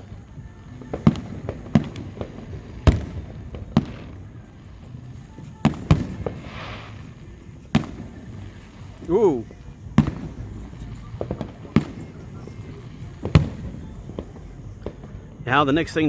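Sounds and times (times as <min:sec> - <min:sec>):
fireworks booming: 0:00.0 - 0:16.0
fireworks crackling hiss: 0:00.0 - 0:16.0.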